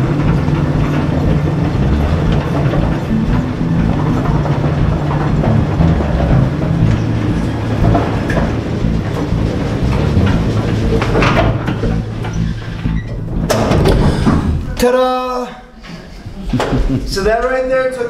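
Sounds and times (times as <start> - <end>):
train wheels clattering on rails: 0.0 - 14.6
locomotive low drone: 0.0 - 14.8.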